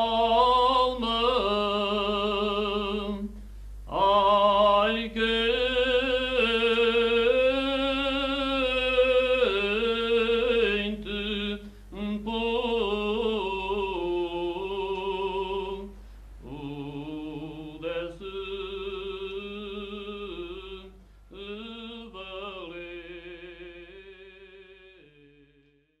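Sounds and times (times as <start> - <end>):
choir singing unaccompanied: 0.0 - 3.3, 3.9 - 25.2.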